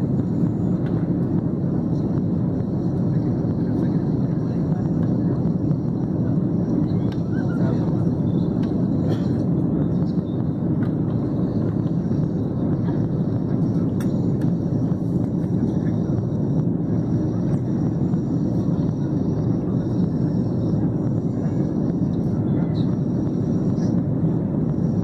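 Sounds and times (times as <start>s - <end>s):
airliner cabin drone: 0.0s - 25.0s.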